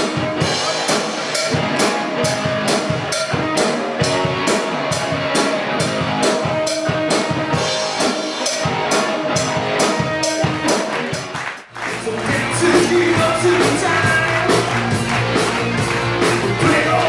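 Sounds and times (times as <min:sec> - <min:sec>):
drum kit hits: 0:00.0 - 0:17.0
guitar: 0:00.0 - 0:17.0.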